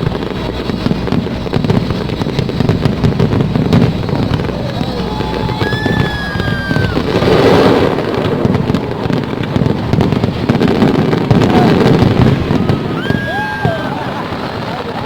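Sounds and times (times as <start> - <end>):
fireworks bangs and crackles: 0.0 - 15.0
whistling firework shell: 0.0 - 15.0.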